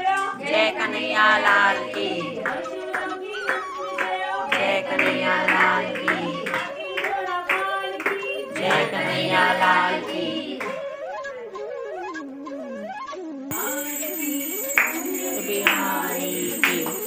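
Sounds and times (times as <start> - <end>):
rhythmic hand-clapping: 0.0 - 10.8, 13.5 - 17.0
devotional singing: 0.0 - 10.9, 13.5 - 17.0.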